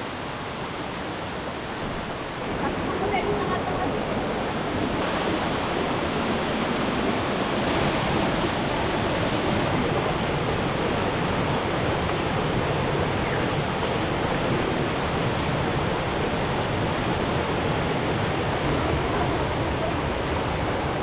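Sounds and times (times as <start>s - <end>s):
rushing river and waterfall: 0.0s - 21.0s.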